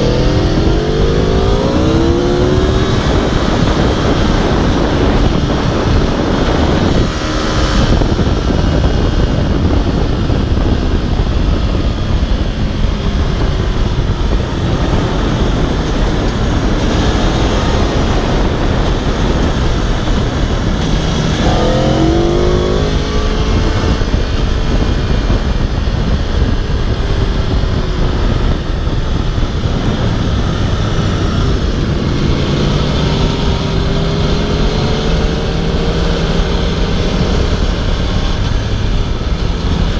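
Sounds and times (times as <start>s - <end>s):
motorcycle engine at speed: 0.0s - 39.9s
wind and road noise rushing: 0.0s - 39.9s.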